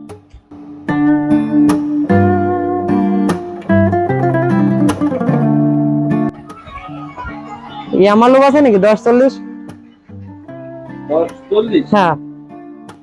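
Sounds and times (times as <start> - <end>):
acoustic guitar picking melody: 0.0 - 13.0.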